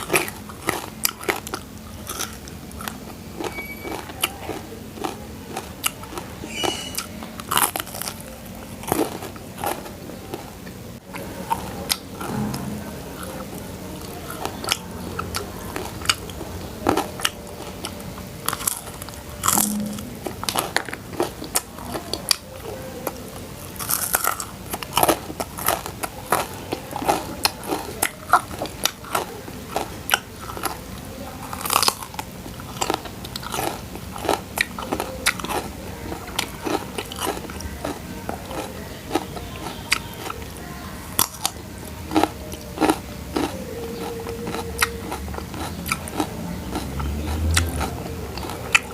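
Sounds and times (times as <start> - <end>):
person chewing crunchy food: 0.0 - 48.9.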